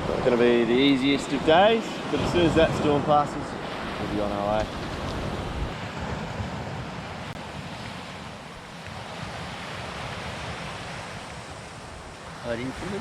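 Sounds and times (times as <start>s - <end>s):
waves washing onto beach: 0.0s - 13.0s
wind buffeting microphone: 0.0s - 13.0s.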